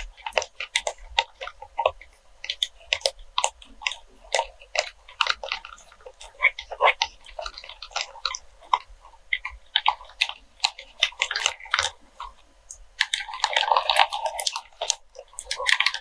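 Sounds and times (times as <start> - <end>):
crackling: 0.0 - 16.0
wax melts crunching clicks: 0.0 - 16.0.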